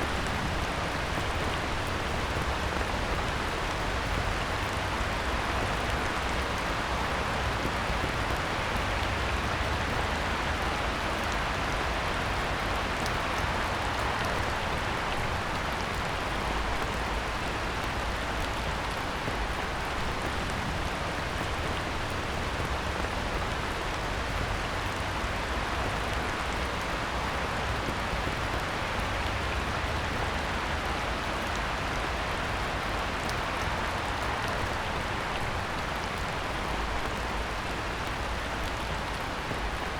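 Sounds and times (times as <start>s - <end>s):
heavy rain on pond: 0.0s - 39.9s.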